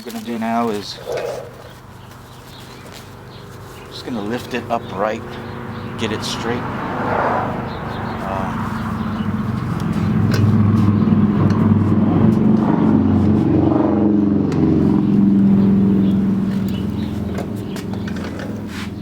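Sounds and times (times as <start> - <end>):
vehicle engine running: 0.1 - 19.0.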